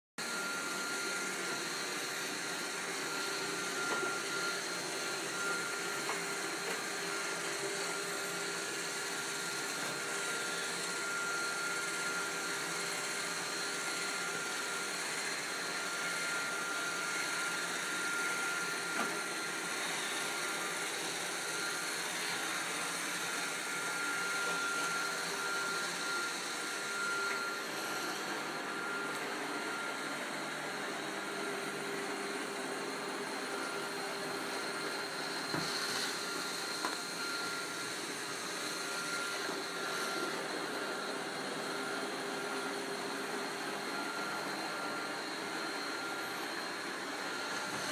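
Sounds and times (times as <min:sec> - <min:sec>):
robot vacuum whirring: 0:00.2 - 0:47.9.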